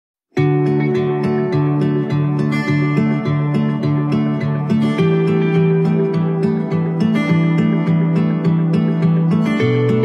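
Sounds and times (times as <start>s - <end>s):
plucked string music: 0.4s - 10.0s.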